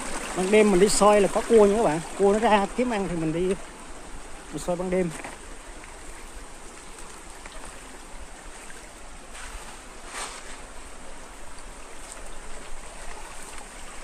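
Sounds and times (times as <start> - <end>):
stream babbling: 0.0 - 14.0.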